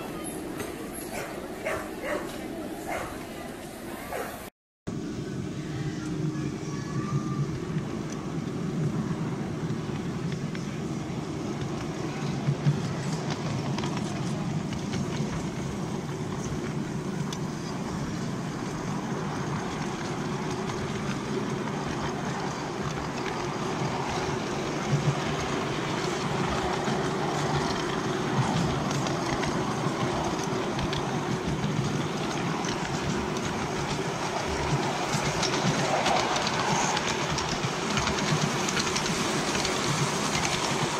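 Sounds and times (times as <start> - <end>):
train wheels rumbling on rails: 0.0 - 4.2, 4.9 - 40.9.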